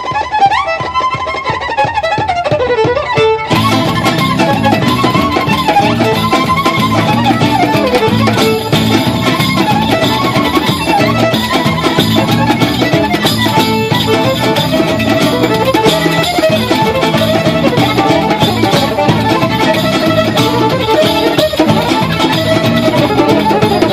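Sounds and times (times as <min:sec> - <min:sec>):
rhythmic string accompaniment: 0:00.0 - 0:23.9
violin melody: 0:00.0 - 0:23.9.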